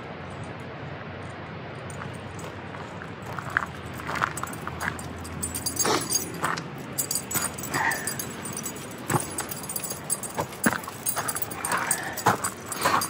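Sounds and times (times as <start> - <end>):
footsteps on gravel: 2.0 - 13.0.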